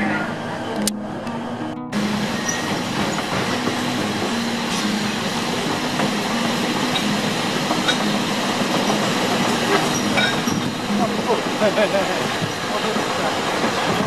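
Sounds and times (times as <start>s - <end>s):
passenger train rumbling past: 0.0s - 14.0s.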